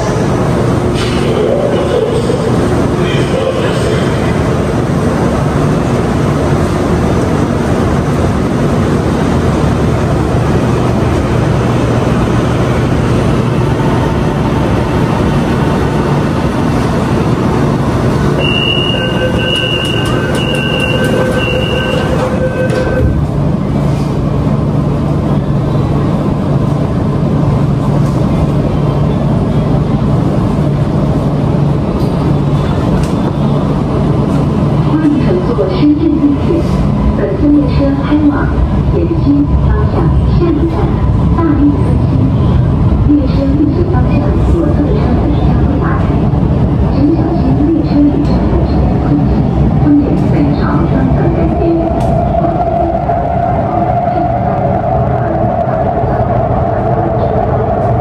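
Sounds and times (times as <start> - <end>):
train equipment humming: 0.0 - 58.0.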